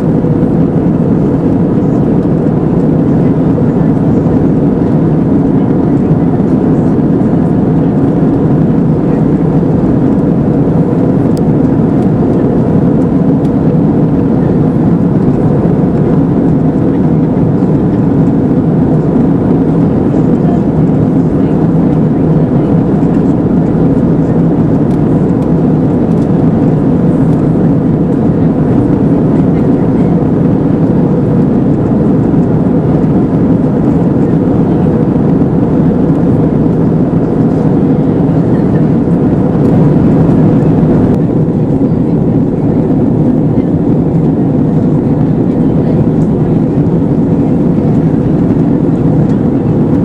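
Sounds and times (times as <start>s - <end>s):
airplane cabin engine roar: 0.0s - 50.0s.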